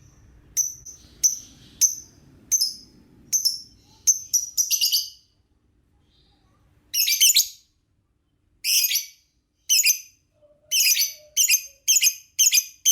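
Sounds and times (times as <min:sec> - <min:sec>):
lovebird chirping: 0:00.0 - 0:05.4, 0:06.1 - 0:07.8, 0:08.6 - 0:12.9.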